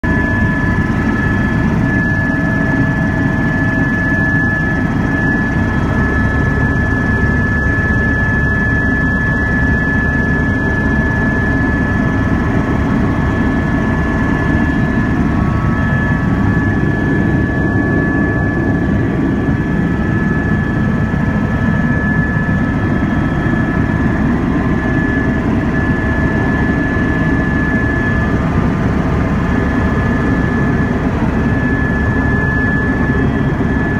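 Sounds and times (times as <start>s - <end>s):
helicopter rotor and turbine rumble: 0.0s - 33.9s
high turbine whine: 0.0s - 33.9s.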